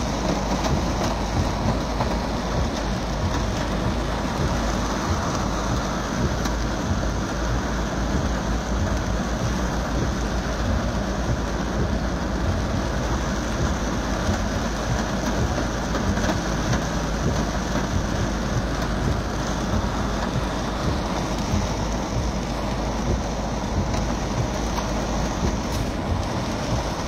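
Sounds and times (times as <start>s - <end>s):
heavy rain on car: 0.0s - 27.0s.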